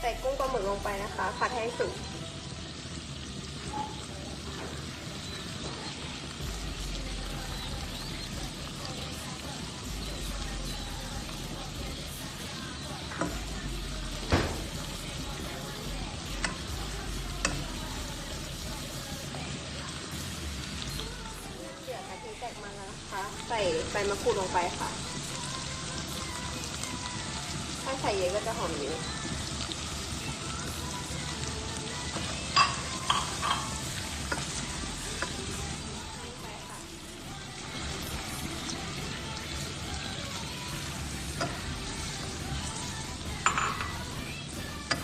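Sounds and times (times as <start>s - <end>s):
seafood sizzling in a pan: 0.0s - 45.0s.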